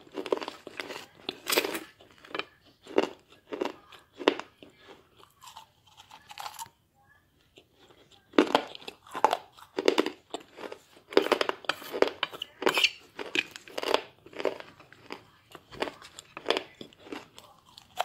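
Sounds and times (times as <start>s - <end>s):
person chewing crunchy clay: 0.0s - 6.8s, 7.5s - 18.0s.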